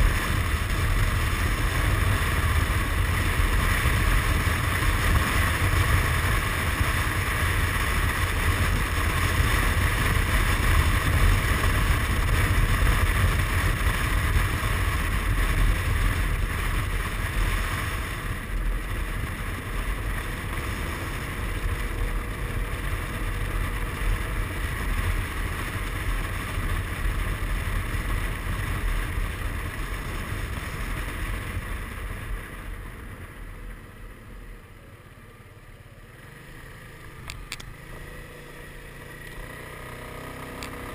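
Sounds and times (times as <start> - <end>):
wind rushing over microphone: 0.0 - 33.8
scooter engine: 0.0 - 40.9.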